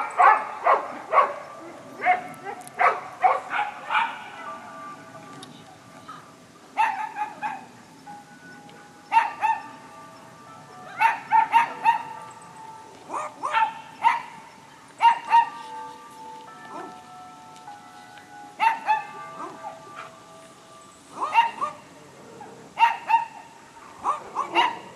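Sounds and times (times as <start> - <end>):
light plucked melody: 1.4 - 22.2.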